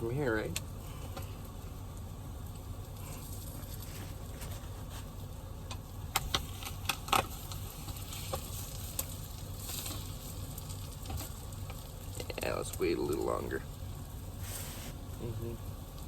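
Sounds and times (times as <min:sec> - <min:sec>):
low steady hum: 0:00.0 - 0:16.0
omelet sizzling in a pan: 0:00.9 - 0:16.0.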